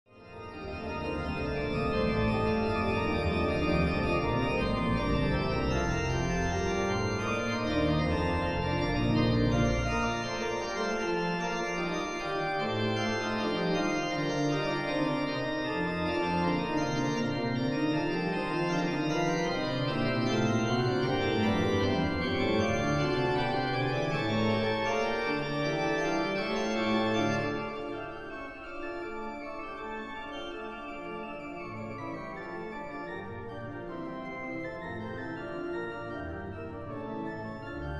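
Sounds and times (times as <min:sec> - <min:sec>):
organ music: 0:00.2 - 0:37.9.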